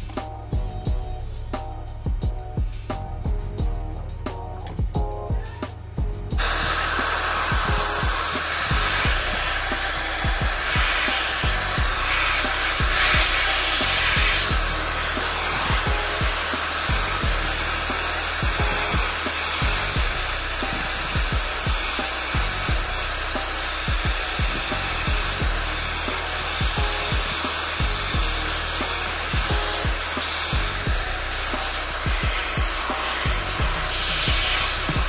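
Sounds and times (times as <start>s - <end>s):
background music: 0.0s - 35.0s
low thumping beat: 0.0s - 35.0s
blower rushing: 6.4s - 35.0s.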